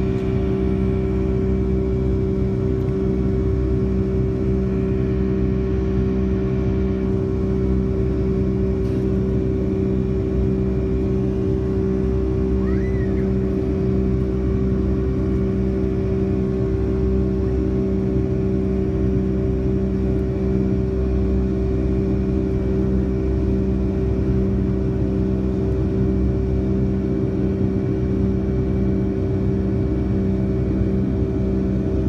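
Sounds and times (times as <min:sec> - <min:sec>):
constant hum of held tones: 0:00.0 - 0:32.0
jet engine and airflow rumble: 0:00.0 - 0:32.0.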